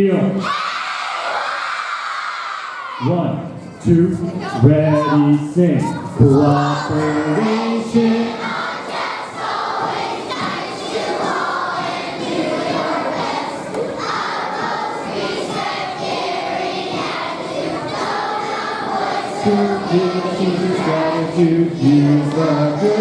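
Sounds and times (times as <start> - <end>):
children singing together: 3.6 - 23.0.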